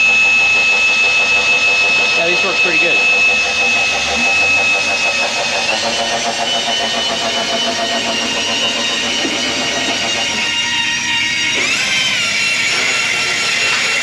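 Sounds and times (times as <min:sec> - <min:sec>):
cordless drill whining: 0:00.0 - 0:14.0.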